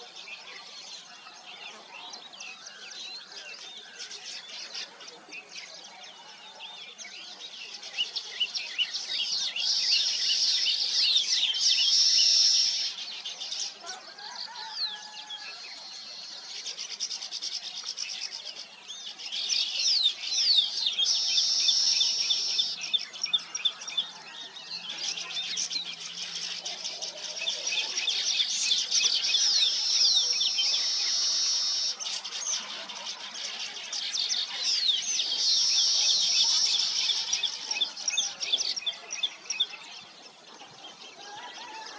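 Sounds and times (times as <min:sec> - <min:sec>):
weaver birds chattering: 0:00.0 - 0:41.9.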